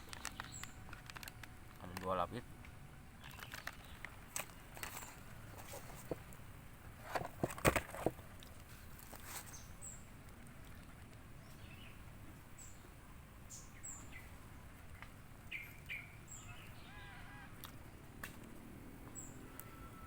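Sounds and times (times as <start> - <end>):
small birds chirping: 0.0 - 2.4, 3.0 - 6.8, 8.4 - 20.0.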